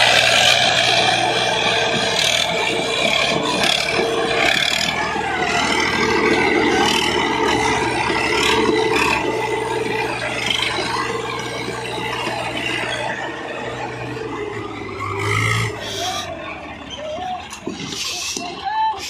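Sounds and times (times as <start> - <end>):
tractor diesel engines under load: 0.0 - 19.0.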